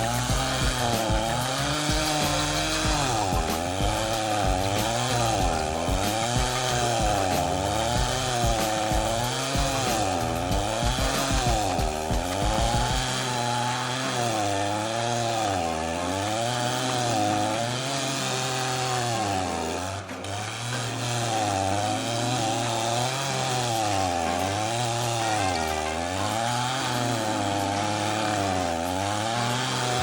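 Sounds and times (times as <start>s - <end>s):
chainsaw engine grinding stump: 0.0s - 30.0s.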